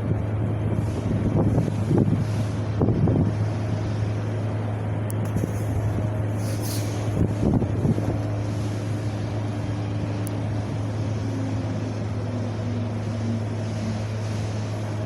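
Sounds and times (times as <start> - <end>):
wind blowing: 0.0 - 12.2.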